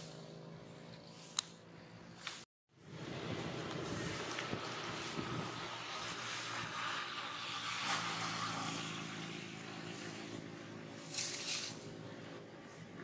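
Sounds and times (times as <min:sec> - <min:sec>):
rustle: 0:00.0 - 0:12.9
motor engine humming: 0:00.0 - 0:13.0.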